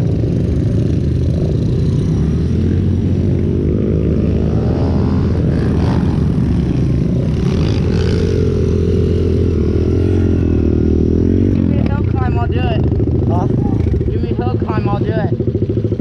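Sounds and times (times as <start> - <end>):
pit bike engine running: 0.0 - 16.0.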